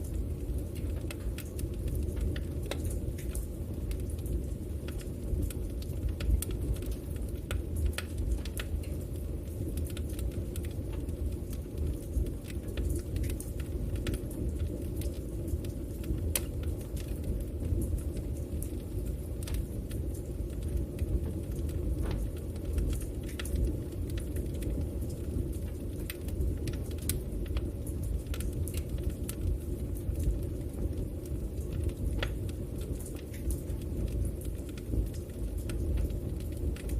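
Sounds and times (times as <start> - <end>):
fire crackling and popping: 0.0 - 36.9
fire flames rumbling: 0.0 - 36.9.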